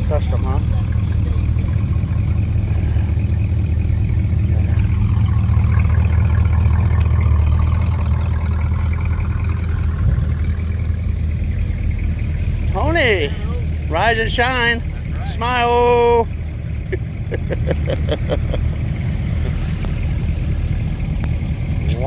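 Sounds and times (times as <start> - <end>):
car engine running slowly: 0.0 - 22.0.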